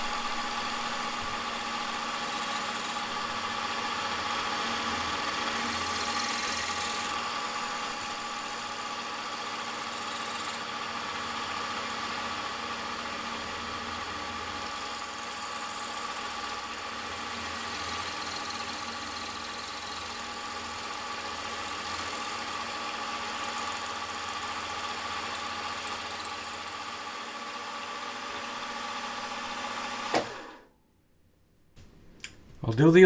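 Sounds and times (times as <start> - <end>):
milling machine drilling metal: 0.0 - 28.2.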